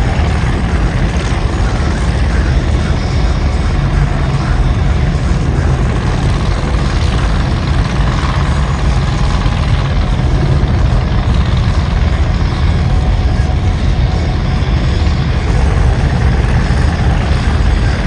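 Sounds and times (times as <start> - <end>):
heavy engines rumbling: 0.0 - 18.0.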